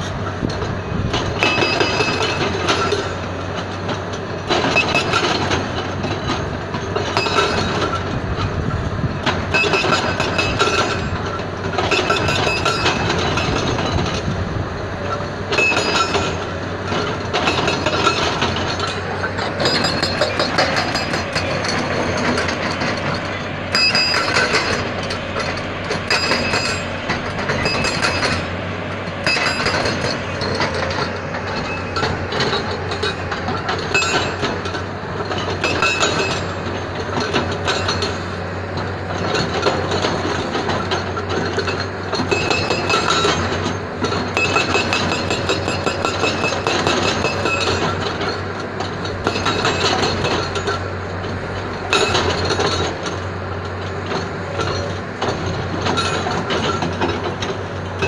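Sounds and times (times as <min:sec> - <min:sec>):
hydraulic breaker hammering rock: 0:00.0 - 0:58.0.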